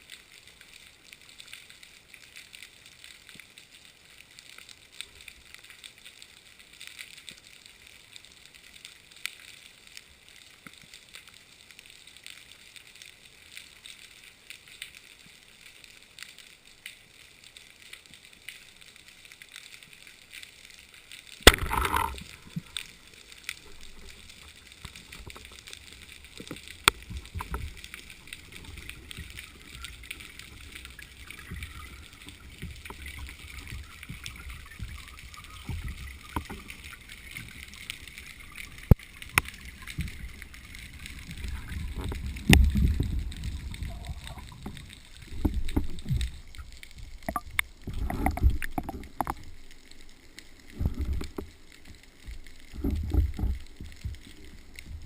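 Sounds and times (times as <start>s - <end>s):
water gurgling: 0.0s - 55.0s.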